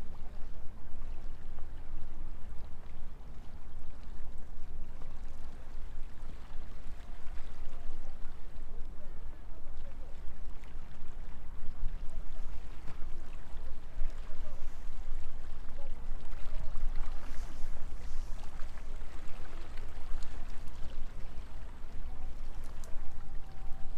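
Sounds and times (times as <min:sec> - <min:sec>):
wind on microphone: 0:00.0 - 0:23.9.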